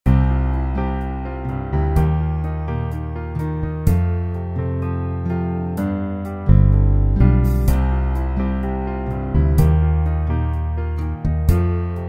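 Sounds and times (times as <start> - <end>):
instrumental background music: 0.1 - 12.0.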